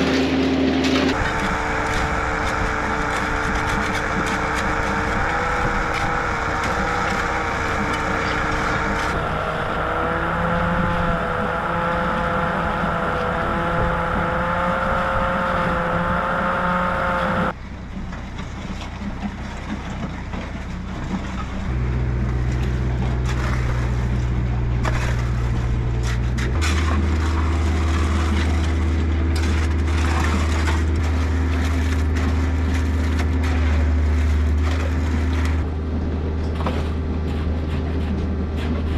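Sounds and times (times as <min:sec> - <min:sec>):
machinery engine drone: 0:00.0 - 0:38.9.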